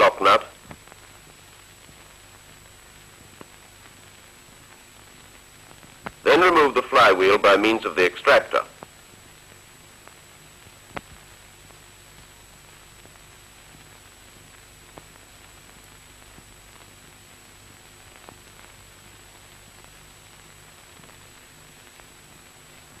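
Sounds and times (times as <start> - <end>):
faint high whine: 0.0 - 23.0
film soundtrack hiss: 0.0 - 23.0.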